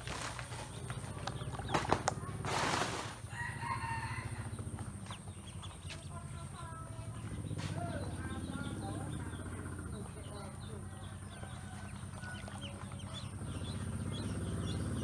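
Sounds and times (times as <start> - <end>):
ducklings peeping: 0.1 - 2.4, 3.2 - 15.0.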